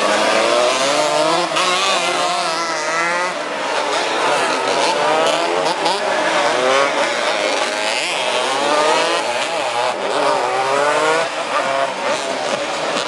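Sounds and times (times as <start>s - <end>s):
racing motorcycles revving past: 0.0s - 13.0s.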